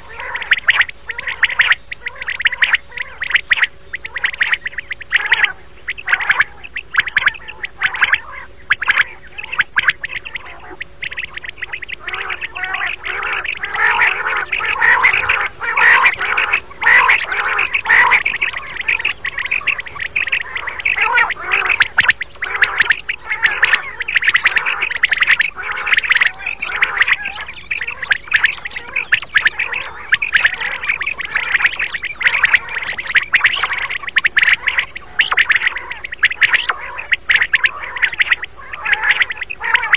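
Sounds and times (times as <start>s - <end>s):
quail chirping calls: 0.0s - 39.9s.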